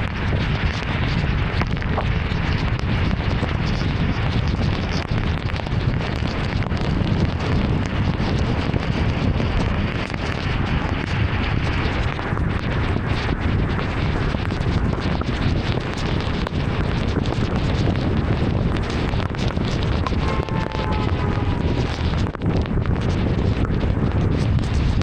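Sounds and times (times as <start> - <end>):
heavy rain on a car: 0.2 - 25.0.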